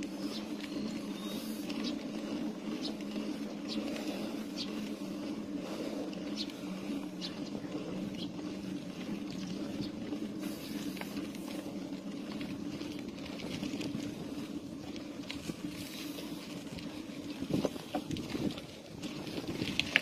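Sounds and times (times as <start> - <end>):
vehicle road noise and hum: 0.0 - 20.0.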